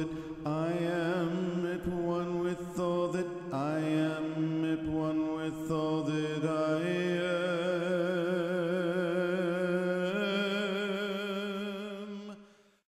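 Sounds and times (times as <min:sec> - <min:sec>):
man chanting long sung note: 0:00.0 - 0:12.4.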